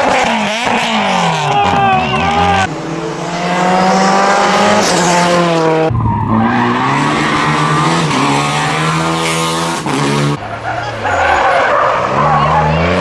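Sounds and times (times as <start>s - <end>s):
rally car engines revving: 0.0s - 13.0s
tyres skidding: 0.0s - 13.0s.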